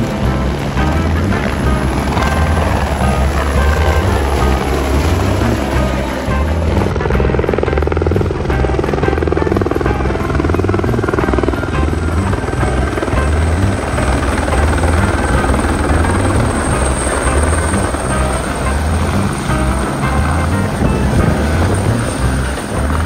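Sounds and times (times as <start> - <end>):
helicopter flying low: 0.0 - 23.0.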